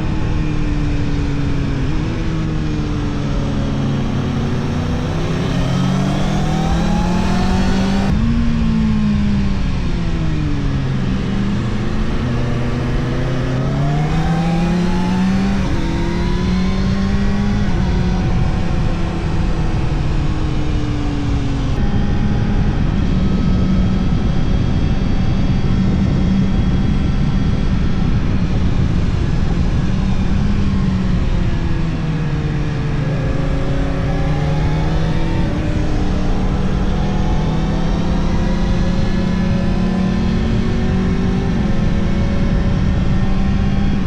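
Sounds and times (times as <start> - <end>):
motorcycle engine revving: 0.0 - 44.0
wind noise: 0.0 - 44.0.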